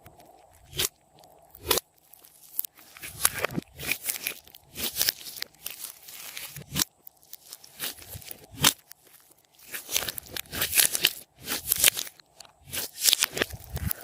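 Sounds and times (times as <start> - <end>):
slime crackling and popping: 0.0 - 14.0.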